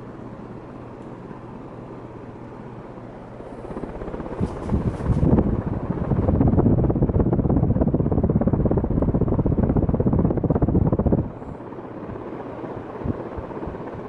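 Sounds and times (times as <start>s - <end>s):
ceiling fan air rush: 0.0s - 14.0s.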